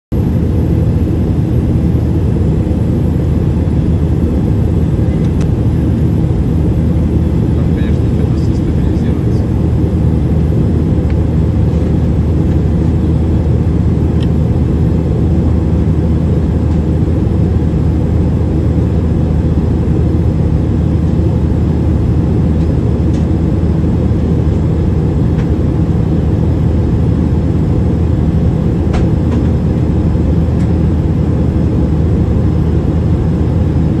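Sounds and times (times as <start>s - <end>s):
aircraft cabin drone: 0.1s - 34.0s.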